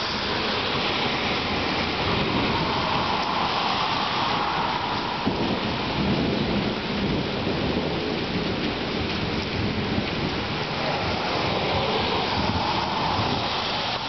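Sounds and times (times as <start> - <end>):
heavy rain: 0.0 - 14.0
thunder rumbling: 0.0 - 14.0.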